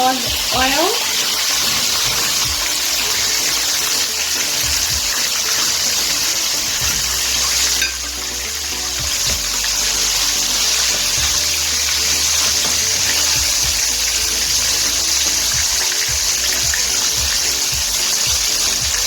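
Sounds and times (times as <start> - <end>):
hot oil sizzling in a pan: 0.0 - 19.0.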